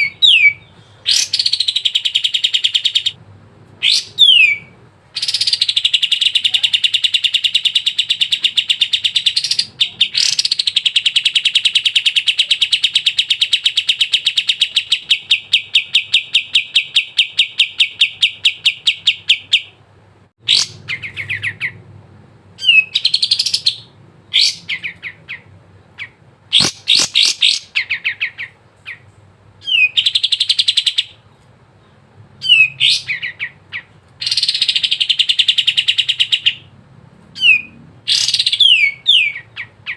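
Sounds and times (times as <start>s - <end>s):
bird singing trills: 0.0s - 3.2s, 3.8s - 19.8s, 20.4s - 21.8s, 22.6s - 36.7s, 37.4s - 39.9s.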